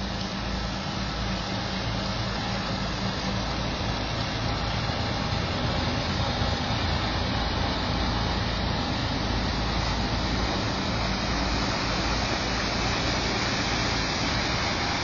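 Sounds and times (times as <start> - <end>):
tug diesel engine droning: 0.0 - 15.0
water churned by propeller: 0.0 - 15.0.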